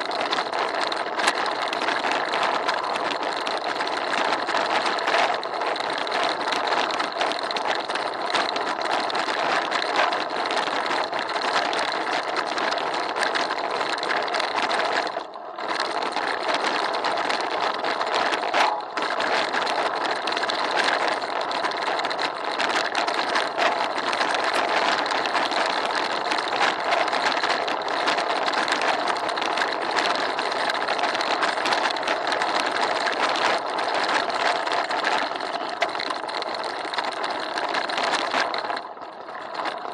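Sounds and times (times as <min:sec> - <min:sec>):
bicycle rattling over cobblestones: 0:00.0 - 0:39.9.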